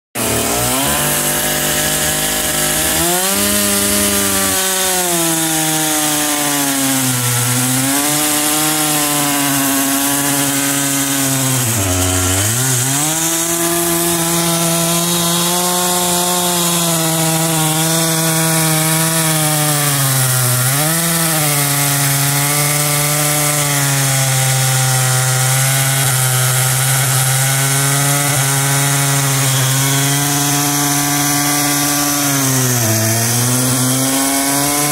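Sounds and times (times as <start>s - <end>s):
chainsaw cutting log: 0.2s - 34.9s.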